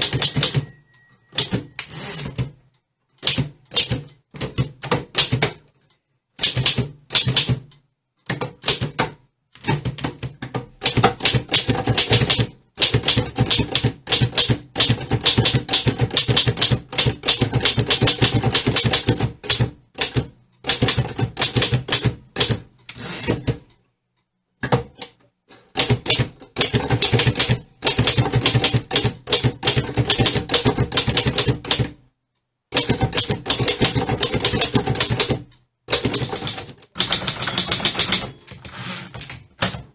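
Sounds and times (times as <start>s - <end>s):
typewriter typing: 0.0s - 2.5s, 3.2s - 5.6s, 6.4s - 23.6s, 25.7s - 32.0s, 32.7s - 39.9s.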